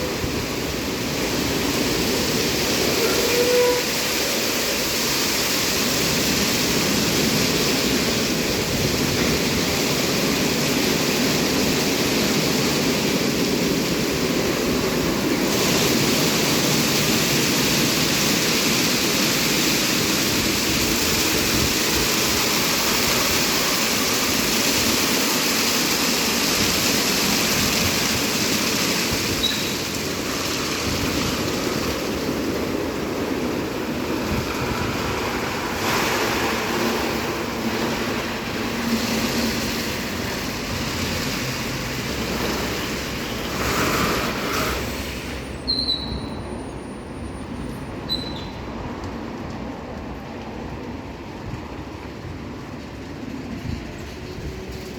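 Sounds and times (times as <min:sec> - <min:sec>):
water spraying onto car: 0:00.0 - 0:46.0.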